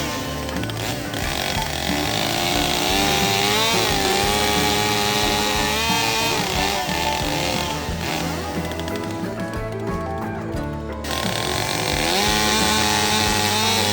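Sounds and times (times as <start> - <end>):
chainsaw cutting wood: 0.0 - 9.8, 11.0 - 13.9.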